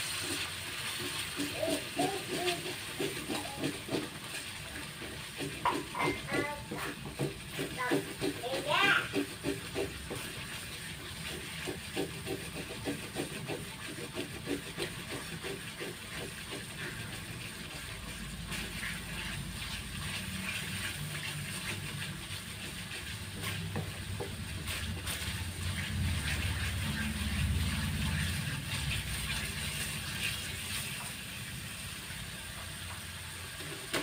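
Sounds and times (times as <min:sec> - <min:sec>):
wooden spatula scraping: 0:00.0 - 0:31.5
spice paste sizzling in a wok: 0:00.0 - 0:34.0.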